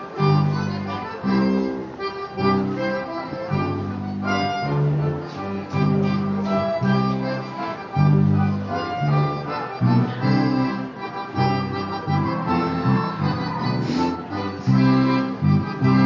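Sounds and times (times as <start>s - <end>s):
folk dance music: 0.0s - 16.0s.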